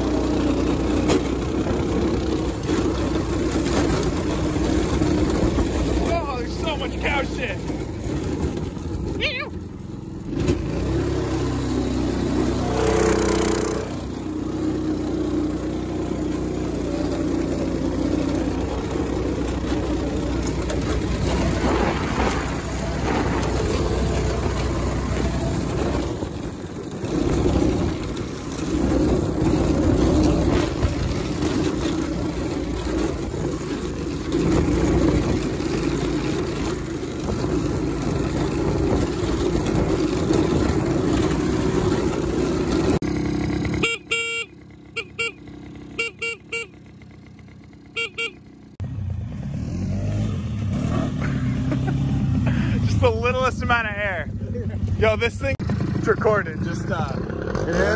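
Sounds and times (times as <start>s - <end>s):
go-kart engine running: 0.0s - 57.9s.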